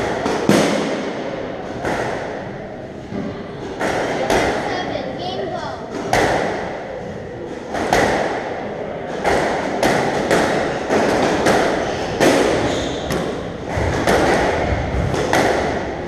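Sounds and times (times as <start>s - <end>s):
squash ball hits echoing: 0.0s - 4.9s, 5.8s - 16.0s.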